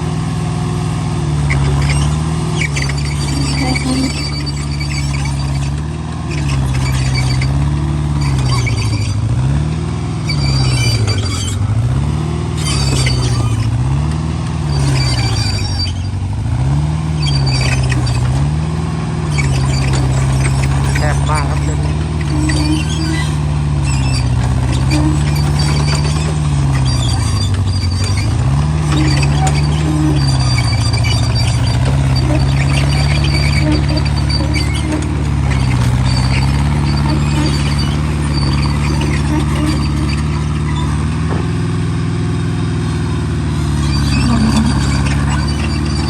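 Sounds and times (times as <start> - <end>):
excavator diesel engine under load: 0.0 - 46.0
high-pitched squealing: 1.5 - 7.6, 8.2 - 9.3, 10.3 - 12.0, 12.6 - 13.9, 14.7 - 16.2, 17.2 - 18.3, 19.3 - 41.2, 43.5 - 46.0.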